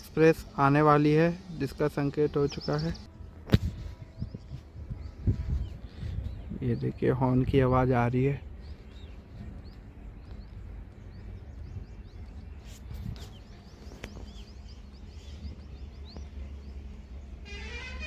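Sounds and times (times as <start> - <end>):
small birds chirping: 0.1 - 17.4
steady low rumble: 2.9 - 17.6.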